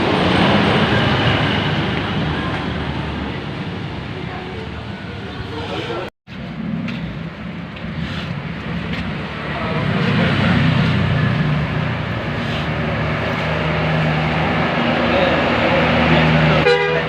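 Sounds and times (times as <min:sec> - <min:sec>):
bus engine driving by: 0:00.0 - 0:17.0
road noise: 0:00.0 - 0:17.0.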